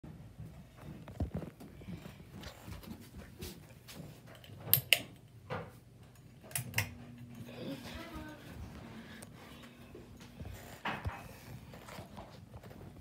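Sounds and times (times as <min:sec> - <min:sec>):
ceiling fan motor hum: 0:00.1 - 0:13.0.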